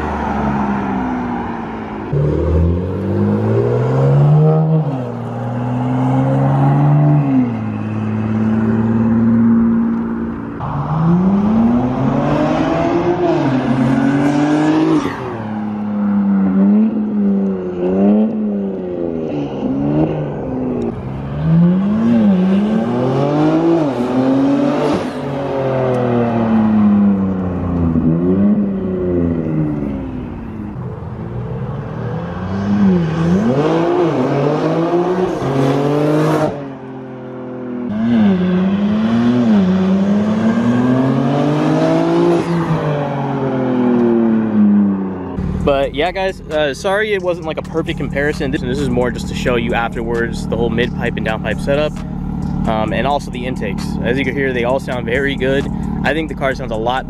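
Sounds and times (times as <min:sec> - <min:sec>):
car engine accelerating hard: 0:02.0 - 0:57.0.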